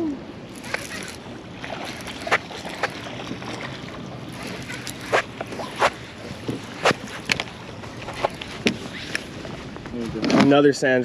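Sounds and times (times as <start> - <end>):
wind and water wash: 0.0 - 11.0
water slapping against boat: 0.4 - 10.7.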